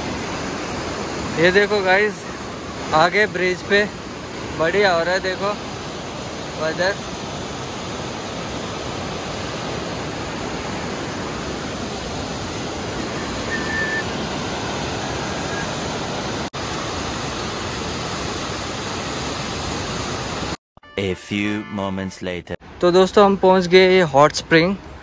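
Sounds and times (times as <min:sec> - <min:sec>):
white-water rapids roaring: 0:00.0 - 0:20.5.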